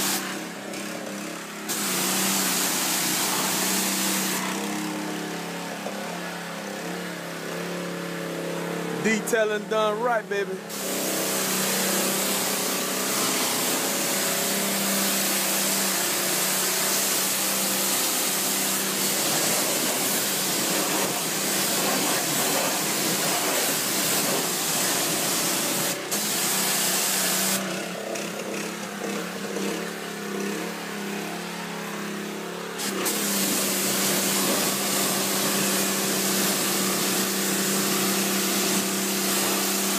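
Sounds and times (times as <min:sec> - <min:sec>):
pressure washer spraying: 0:00.0 - 0:07.7, 0:10.3 - 0:31.1, 0:32.8 - 0:39.9.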